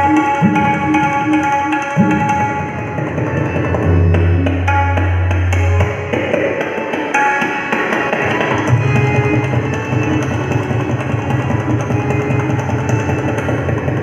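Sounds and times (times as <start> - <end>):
harmonium melody: 0.0 - 14.0
rapid tabla strokes: 0.0 - 14.0.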